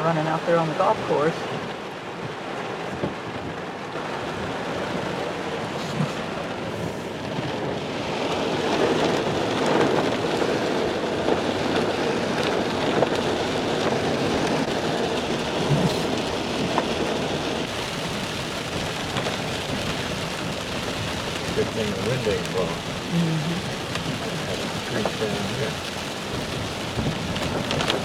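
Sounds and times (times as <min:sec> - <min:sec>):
heavy rain on a car: 0:00.0 - 0:28.0
tyres on wet road: 0:00.0 - 0:28.0.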